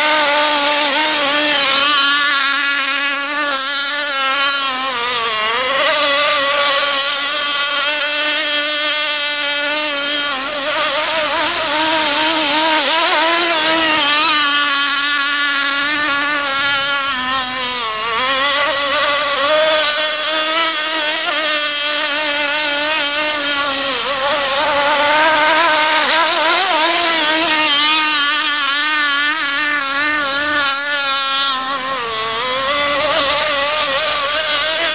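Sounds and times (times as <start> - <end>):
model boat motor whine: 0.0 - 34.9.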